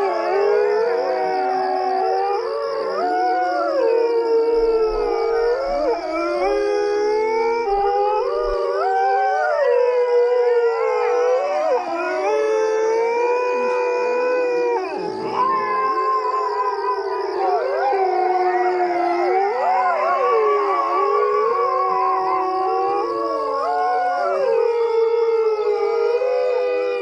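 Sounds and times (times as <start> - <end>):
coyotes howling: 0.0 - 27.0.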